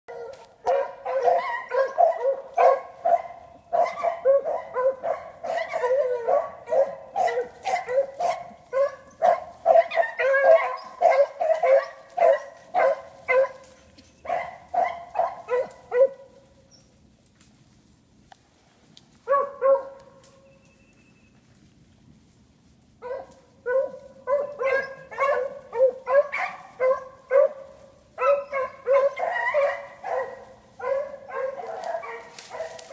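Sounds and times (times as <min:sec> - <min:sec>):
beagles baying: 0:00.1 - 0:17.0, 0:19.2 - 0:21.5, 0:23.0 - 0:32.9.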